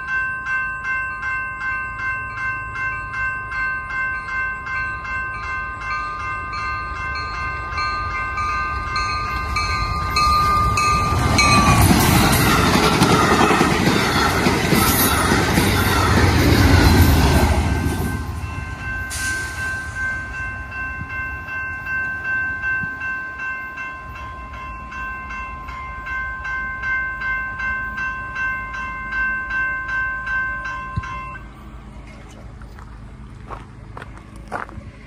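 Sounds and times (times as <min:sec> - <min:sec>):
crossing warning bell ringing: 0:00.0 - 0:34.7
train cars rumbling on rails: 0:00.7 - 0:35.0.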